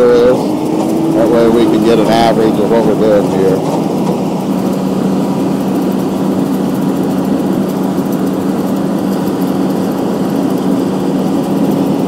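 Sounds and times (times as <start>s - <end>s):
combine harvester engine droning: 0.0s - 12.0s.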